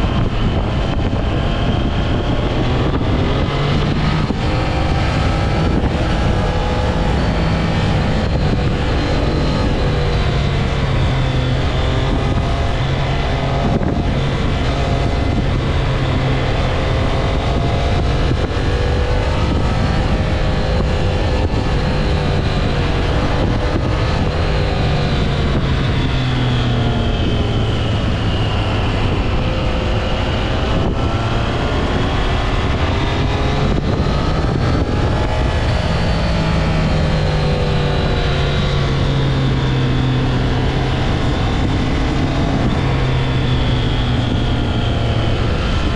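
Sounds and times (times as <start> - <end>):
motorcycle engine revving: 0.0 - 45.9
wind buffeting microphone: 0.0 - 45.9.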